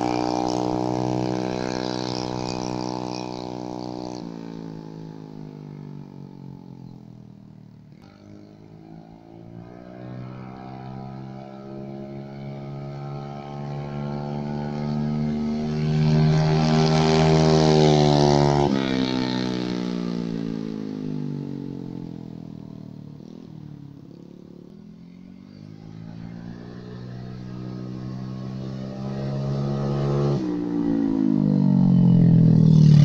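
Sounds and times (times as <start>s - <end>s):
scooter passing at full throttle: 0.0s - 33.0s.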